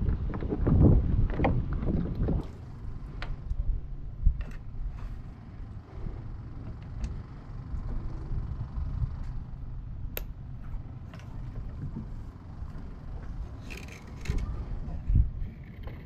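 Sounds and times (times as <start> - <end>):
water around kayak: 0.0 - 9.8, 10.5 - 16.0
wind on microphone: 0.0 - 10.1, 11.4 - 16.0.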